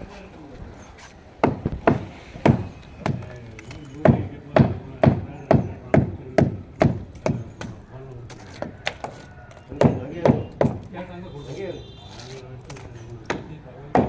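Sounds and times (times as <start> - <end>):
faint voices: 2.0 - 14.0.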